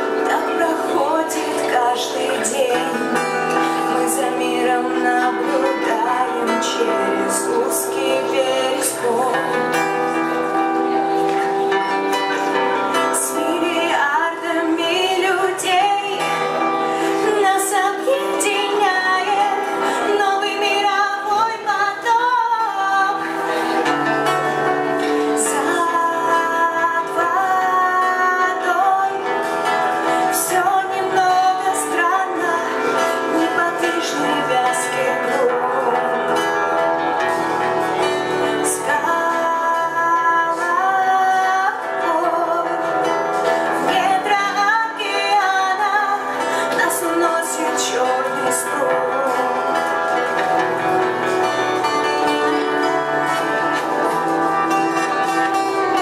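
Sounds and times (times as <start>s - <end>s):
live band playing: 0.0s - 56.0s
woman singing: 0.0s - 56.0s.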